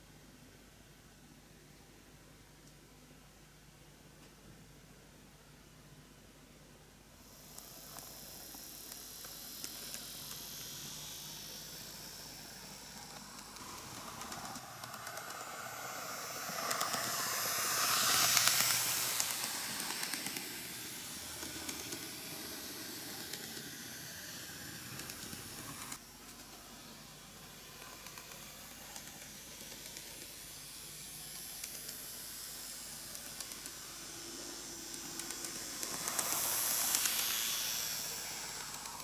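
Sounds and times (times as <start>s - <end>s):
model train running on rails: 7.3s - 39.0s.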